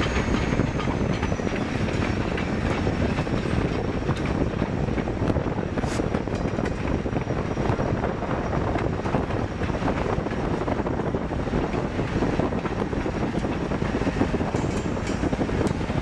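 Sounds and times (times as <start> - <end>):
diesel locomotive rumble: 0.0 - 16.0
wind buffeting microphone: 0.0 - 16.0.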